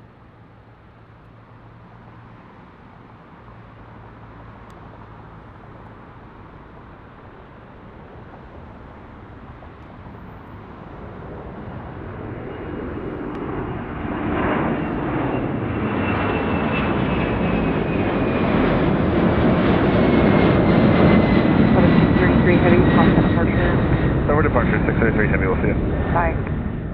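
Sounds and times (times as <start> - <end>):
jet engines at takeoff: 0.0 - 26.9.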